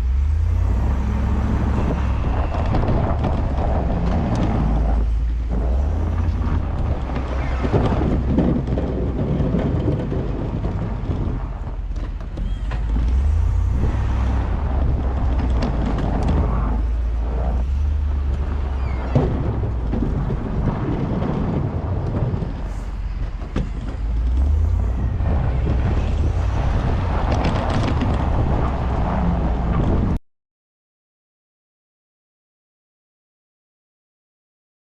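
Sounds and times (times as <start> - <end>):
vehicle engine rumbling: 0.0 - 30.2
knocks and rattles: 1.8 - 30.2.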